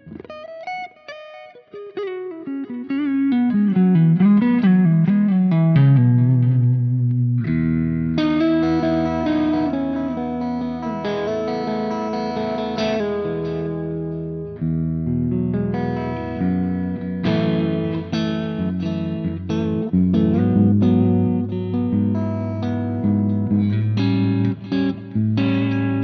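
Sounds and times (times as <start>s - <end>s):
electric guitar: 0.0s - 26.0s.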